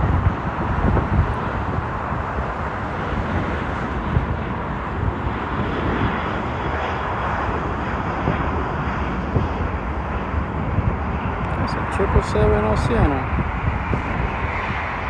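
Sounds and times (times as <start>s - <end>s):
jet engine rush: 0.0s - 15.0s.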